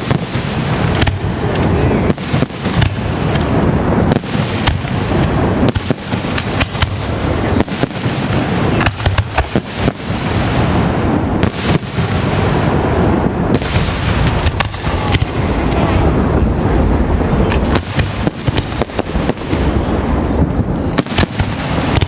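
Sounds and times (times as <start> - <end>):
fireworks bangs and crackles: 0.0 - 22.0
low rumble of booms: 0.0 - 22.0.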